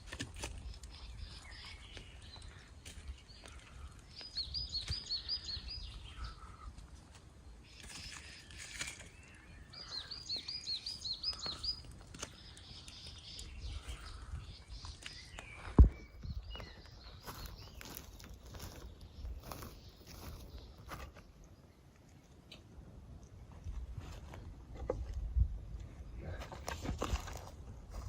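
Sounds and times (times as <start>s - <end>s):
songbird singing: 0.0s - 23.5s.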